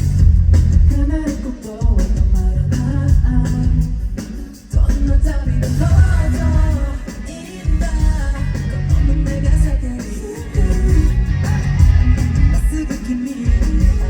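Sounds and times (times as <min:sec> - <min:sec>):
heavy bass beat: 0:00.0 - 0:14.0
person singing: 0:00.9 - 0:14.0.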